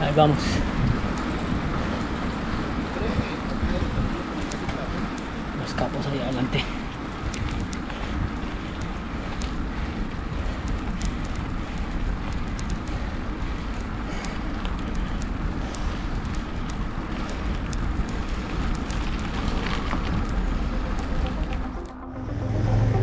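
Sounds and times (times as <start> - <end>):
bike clicks and rattles: 0.0 - 21.9
wind rumbling on microphone: 0.0 - 23.0.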